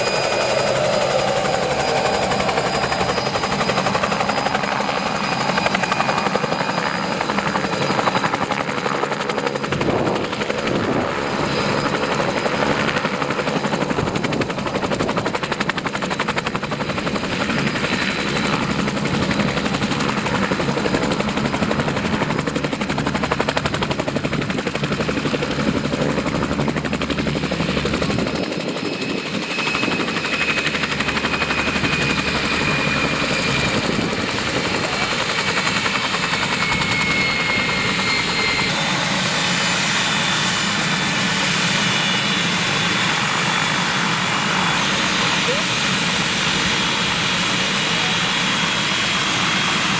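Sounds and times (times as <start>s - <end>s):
helicopter rotor and engine: 0.0s - 49.9s.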